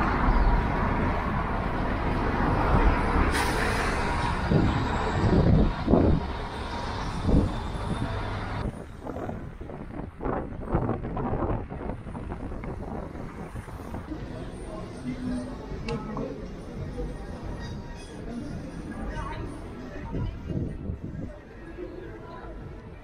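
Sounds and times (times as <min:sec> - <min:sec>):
vehicle engine and road noise: 0:00.0 - 0:23.0.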